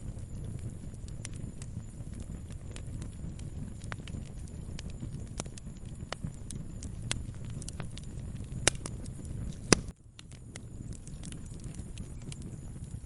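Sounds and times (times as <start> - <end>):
low rumble of flame: 0.0 - 13.0
wood fire crackling: 0.0 - 13.0.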